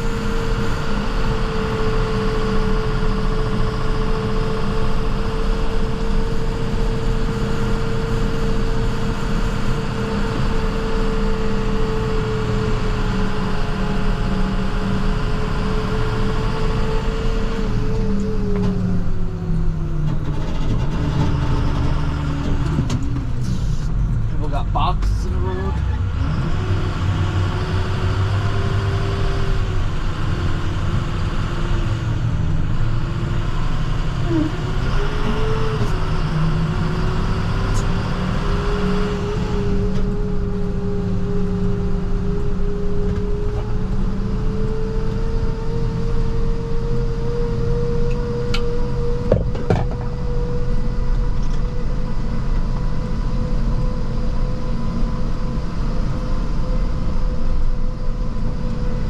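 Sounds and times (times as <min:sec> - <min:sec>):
diesel truck engine running: 0:00.0 - 0:59.0
steady whine: 0:00.0 - 0:59.0.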